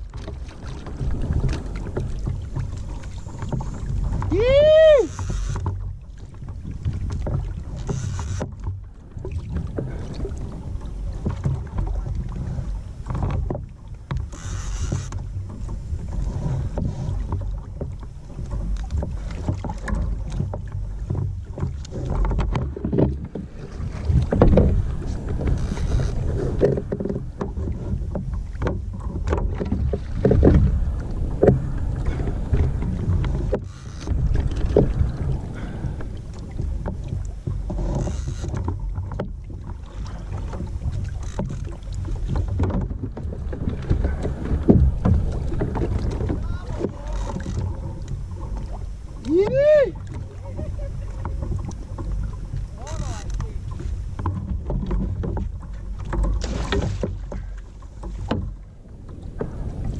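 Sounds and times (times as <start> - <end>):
water against kayak hull: 0.0 - 59.9
wind rumbling on microphone: 0.0 - 59.9.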